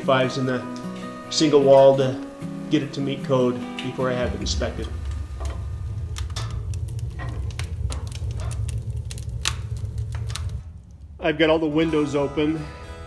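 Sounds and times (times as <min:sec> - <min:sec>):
wood fire crackling and popping: 0:00.0 - 0:12.2
stove low rumble: 0:00.0 - 0:12.6.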